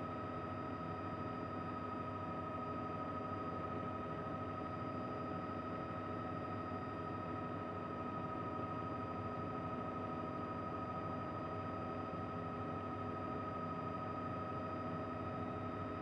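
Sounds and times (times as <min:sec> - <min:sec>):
helicopter cabin drone: 0:00.0 - 0:16.0.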